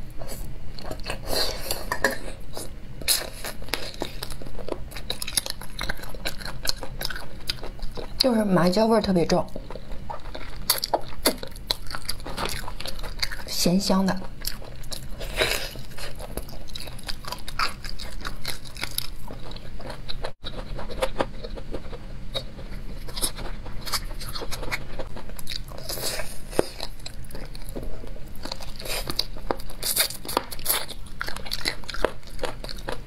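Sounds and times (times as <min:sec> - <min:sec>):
crunchy biting and chewing: 0:00.2 - 0:08.2, 0:09.6 - 0:13.5, 0:14.2 - 0:33.0.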